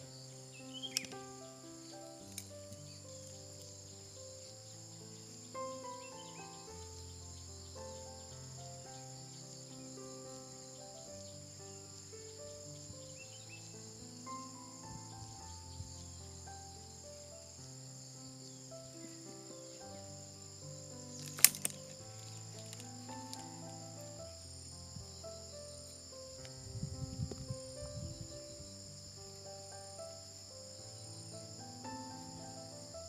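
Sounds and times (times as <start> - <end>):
high-pitched insect drone: 0.0 - 33.0
soft slow background music: 0.0 - 33.0.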